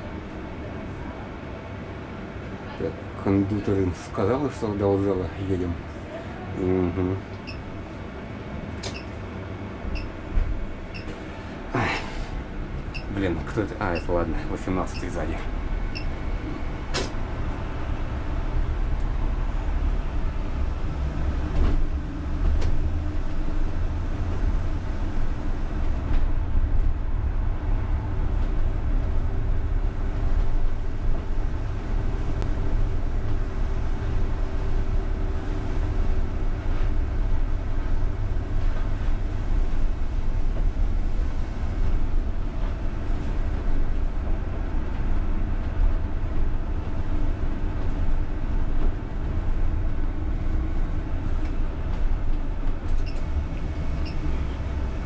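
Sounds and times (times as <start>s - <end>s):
low rumble of tyres: 0.0s - 55.0s.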